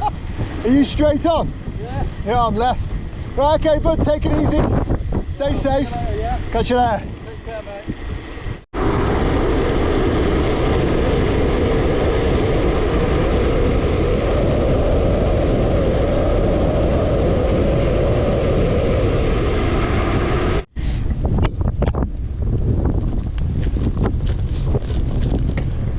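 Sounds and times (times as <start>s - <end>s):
loud wind rushing over microphone: 0.0s - 25.9s.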